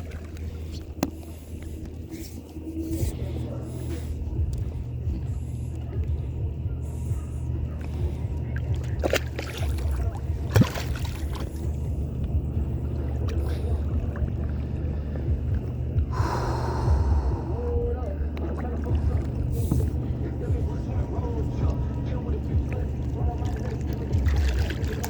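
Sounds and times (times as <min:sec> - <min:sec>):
low rumble of kayak on water: 0:00.0 - 0:25.0.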